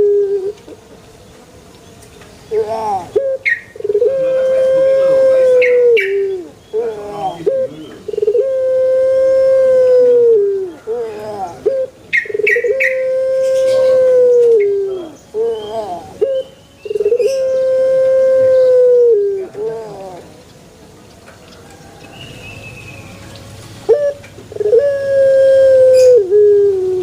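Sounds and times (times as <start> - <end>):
dove cooing: 0.0 - 0.9, 2.5 - 20.6, 23.8 - 27.0.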